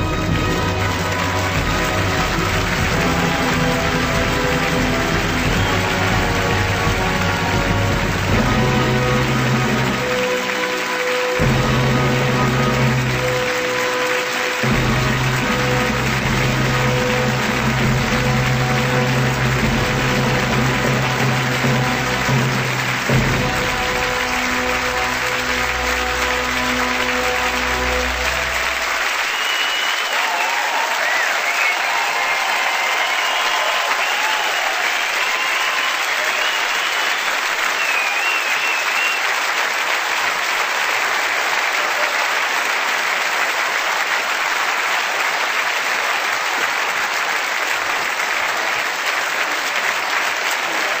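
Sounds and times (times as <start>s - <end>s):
audience applauding: 0.0s - 51.0s
audience cheering: 0.0s - 51.0s.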